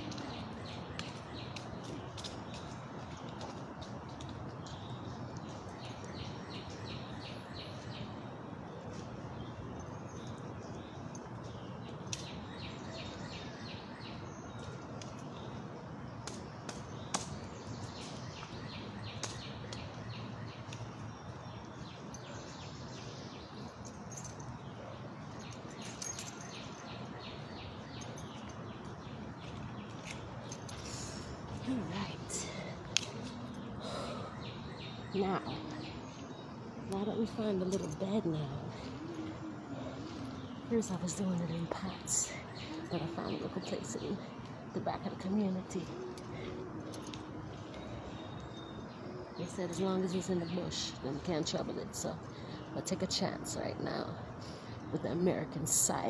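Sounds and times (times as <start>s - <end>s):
birds chirping: 0.0s - 56.0s
outdoor background hiss: 0.0s - 56.0s.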